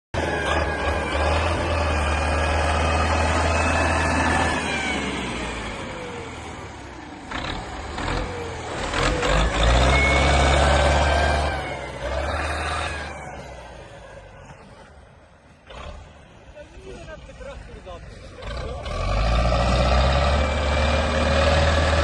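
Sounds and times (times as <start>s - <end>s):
snow vehicle engine revving: 0.2s - 22.0s.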